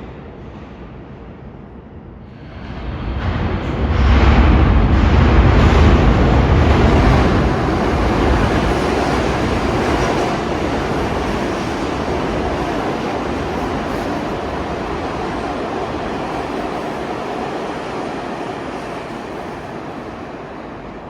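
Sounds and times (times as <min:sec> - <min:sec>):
subway train rumbling clatter: 0:00.0 - 0:21.0.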